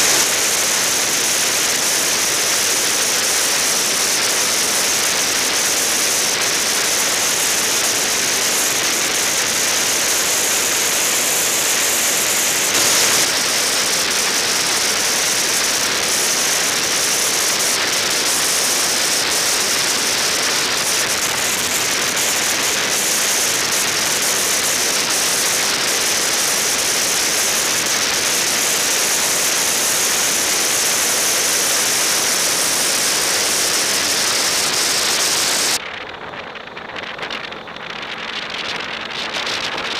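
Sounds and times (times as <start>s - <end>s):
wind and road noise hiss: 0.0s - 36.2s.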